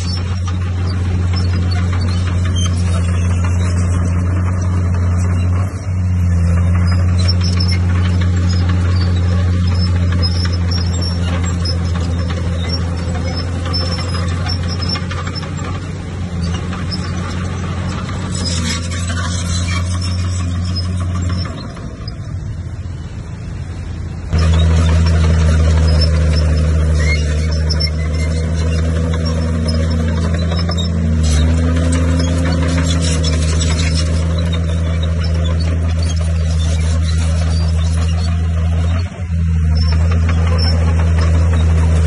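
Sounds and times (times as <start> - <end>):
diesel engine humming: 0.0 - 42.0
rattling noise: 0.0 - 42.0.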